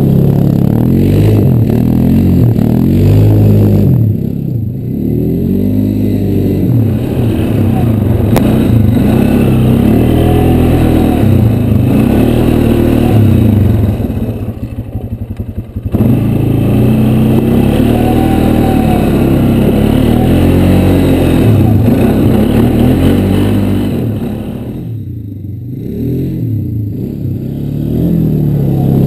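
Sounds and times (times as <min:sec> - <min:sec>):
atv engine revving and idling: 0:00.0 - 0:29.0.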